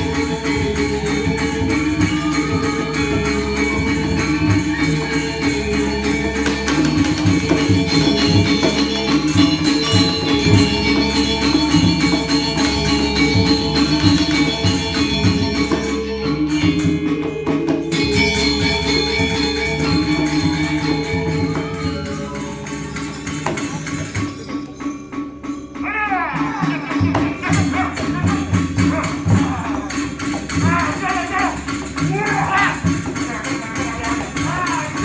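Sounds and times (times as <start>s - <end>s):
drum beats: 0.0s - 35.0s
jangling small cymbals: 0.0s - 35.0s
metallophones ringing melody: 0.0s - 35.0s.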